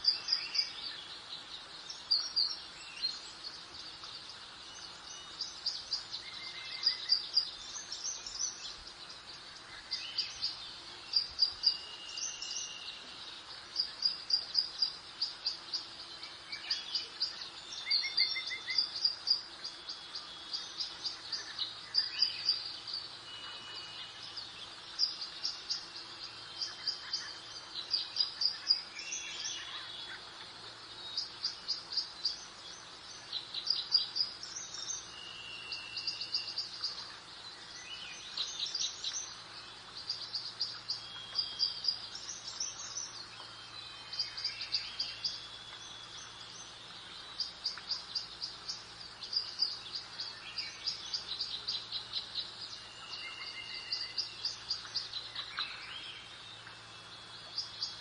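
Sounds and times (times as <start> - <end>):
soft background hiss: 0.0 - 58.0
songbirds chirping: 0.0 - 58.0.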